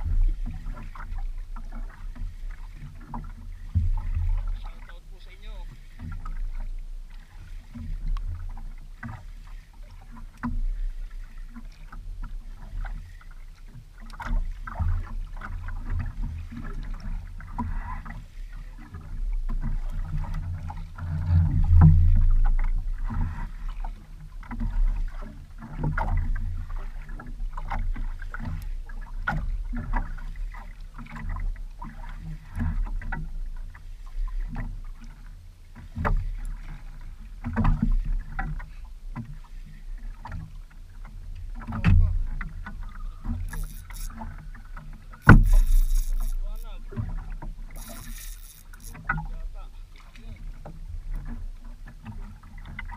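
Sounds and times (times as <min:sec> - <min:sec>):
knocks and splashes: 0:00.0 - 0:13.1, 0:18.8 - 0:33.8, 0:35.8 - 0:39.4, 0:40.2 - 0:52.9
water lapping against boat hull: 0:00.0 - 0:52.9.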